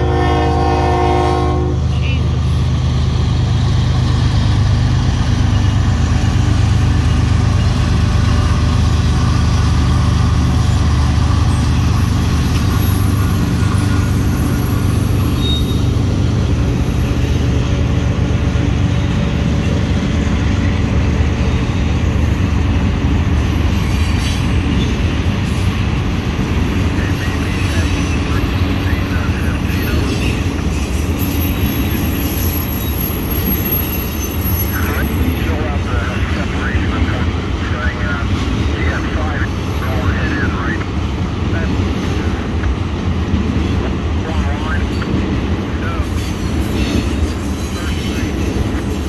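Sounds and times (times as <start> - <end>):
locomotive engines droning: 0.0 - 49.0
train cars rolling on rails: 0.0 - 49.0.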